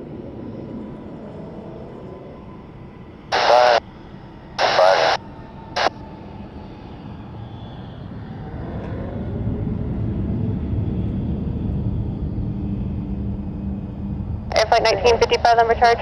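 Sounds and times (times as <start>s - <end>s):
falling jet whine: 0.0s - 13.1s
jet engines rumbling: 0.0s - 16.0s.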